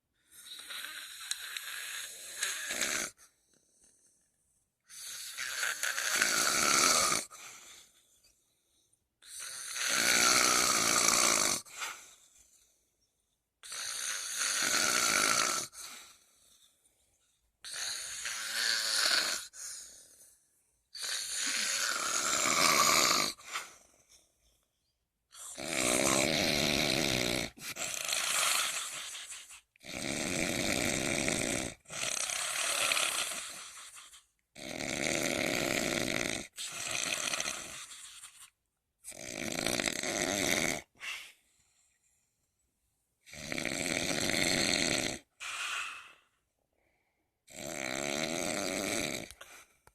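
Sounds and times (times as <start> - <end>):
person snoring: 0.2 - 4.0, 4.9 - 8.0, 9.2 - 12.6, 13.6 - 16.6, 17.6 - 24.0, 25.3 - 41.4, 43.2 - 46.4, 47.4 - 49.7.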